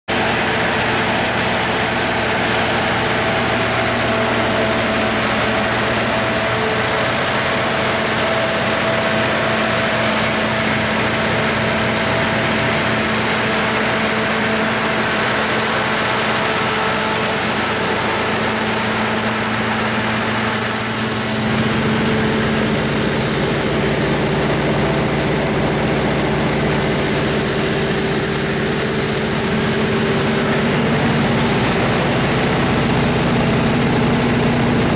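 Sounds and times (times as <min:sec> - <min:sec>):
diesel generator droning: 0:00.1 - 0:34.9.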